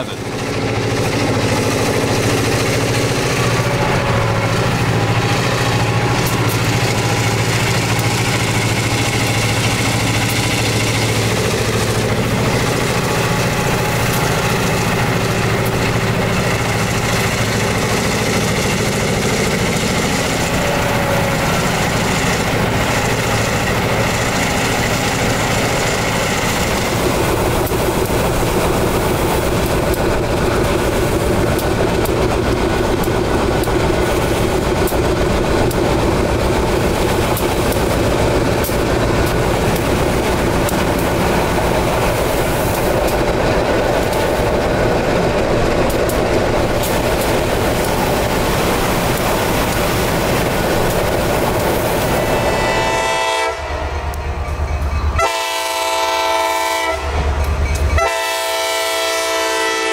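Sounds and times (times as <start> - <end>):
diesel locomotive running: 0.0 - 59.9.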